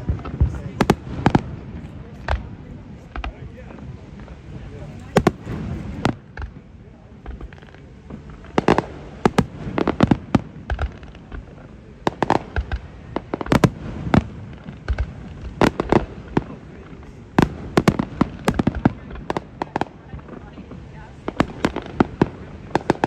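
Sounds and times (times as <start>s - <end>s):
fireworks booms and cracks: 0.0s - 23.0s.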